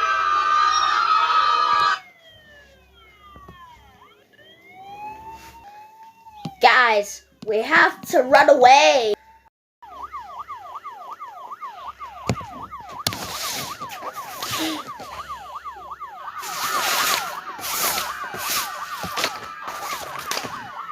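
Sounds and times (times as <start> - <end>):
electronic siren yelping: 0.0 - 7.6, 9.1 - 20.9.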